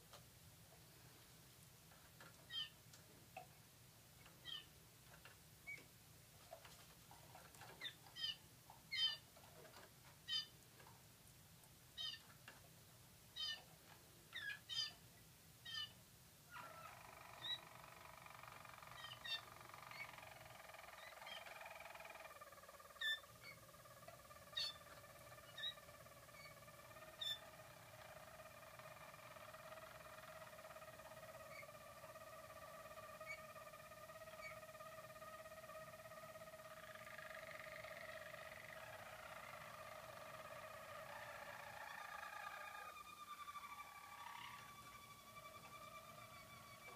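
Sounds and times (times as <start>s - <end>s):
canary rolling song: 1.8s - 3.5s, 4.2s - 46.9s
canary chirps: 2.2s - 2.8s, 4.2s - 4.8s, 7.2s - 10.9s, 11.9s - 12.4s, 13.3s - 15.0s, 15.6s - 46.9s.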